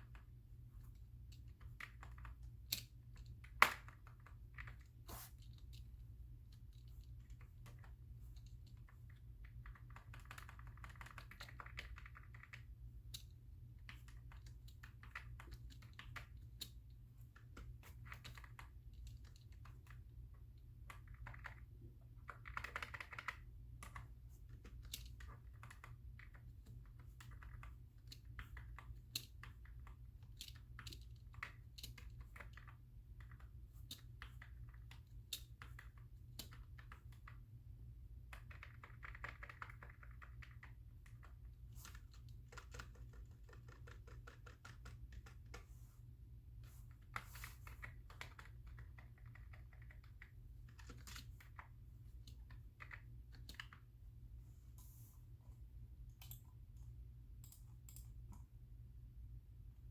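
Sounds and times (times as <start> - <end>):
faint low hum: 0.0 - 59.9
typing on computer keyboard: 1.3 - 5.0, 6.5 - 37.5, 38.2 - 45.6, 46.9 - 53.9.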